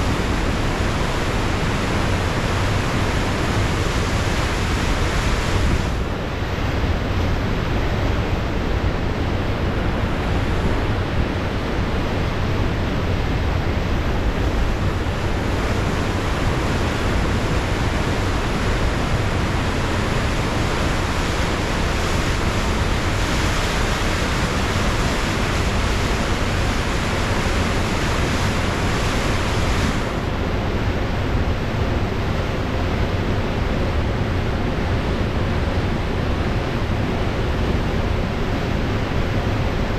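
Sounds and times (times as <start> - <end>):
ocean surf washing: 0.0 - 39.9
wind on microphone: 0.0 - 39.9.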